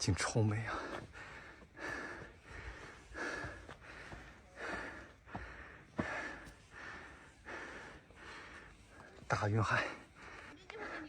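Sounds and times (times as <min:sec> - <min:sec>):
person breathing heavily: 0:00.7 - 0:11.0.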